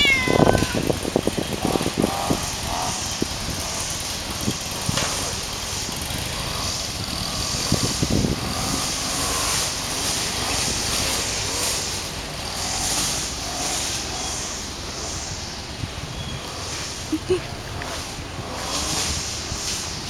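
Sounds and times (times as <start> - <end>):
outdoor background hiss and rumble: 0.0 - 20.0.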